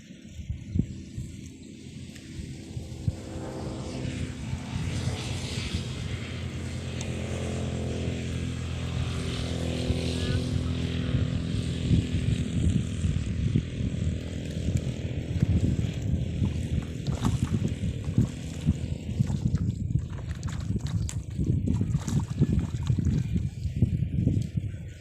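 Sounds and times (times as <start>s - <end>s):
motor engine running: 0.0s - 25.0s
wind buffeting microphone: 0.1s - 25.0s.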